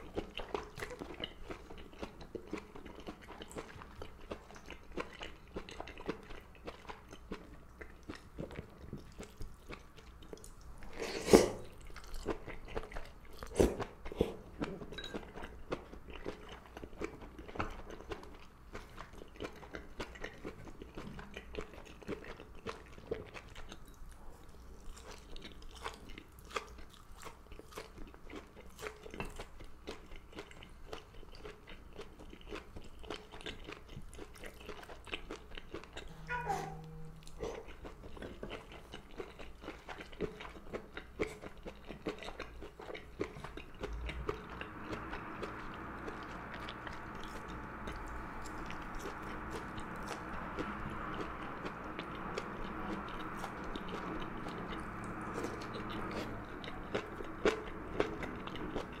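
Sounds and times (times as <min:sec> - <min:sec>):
wet chewing sounds: 0:00.0 - 0:59.0.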